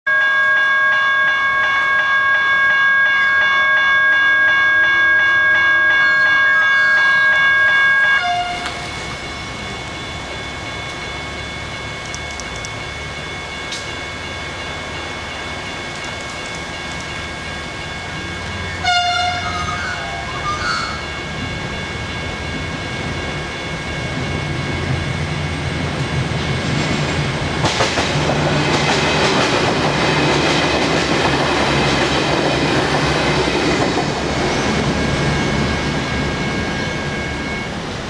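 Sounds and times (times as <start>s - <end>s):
electronic level-crossing bells: 0.1s - 26.6s, 33.2s - 37.9s.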